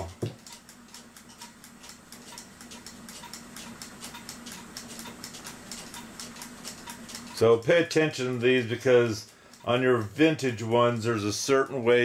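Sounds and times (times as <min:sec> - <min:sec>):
mechanical clock ticking fast: 0:00.0 - 0:12.0.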